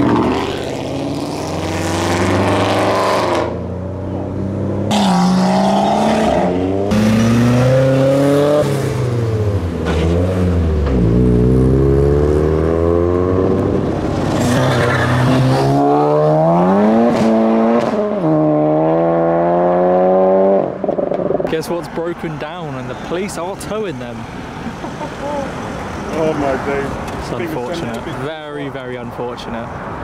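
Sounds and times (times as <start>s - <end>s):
car engines accelerating hard: 0.0s - 28.4s.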